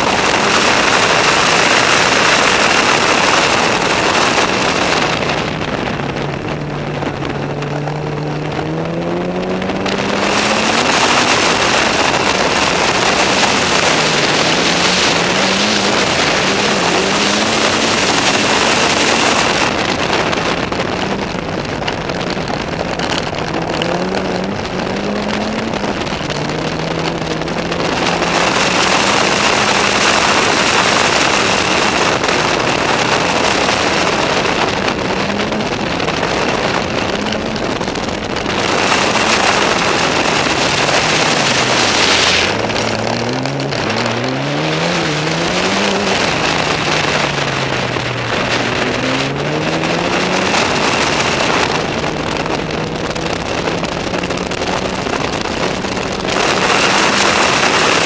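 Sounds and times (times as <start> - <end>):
car engine revving hard: 0.0 - 58.0
wind rush on microphone: 0.0 - 58.0.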